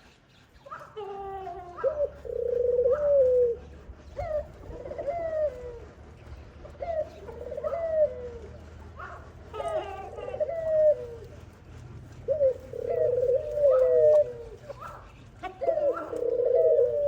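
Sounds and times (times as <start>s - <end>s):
dove calling: 0.0s - 17.0s.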